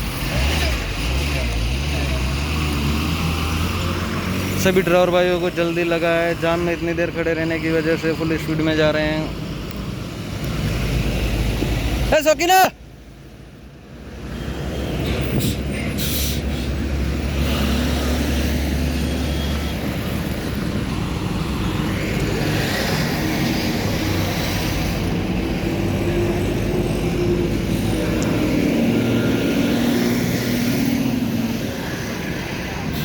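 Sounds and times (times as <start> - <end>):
road and traffic noise: 0.0 - 33.0.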